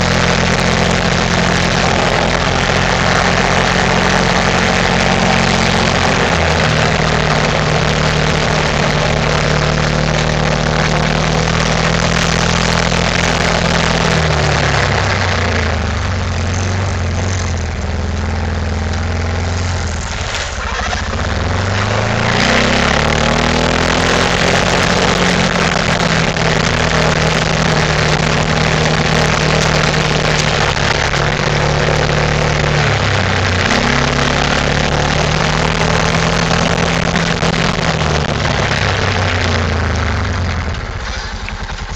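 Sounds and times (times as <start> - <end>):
loud rushing noise: 0.0 - 41.2
atv engine running: 0.0 - 41.9.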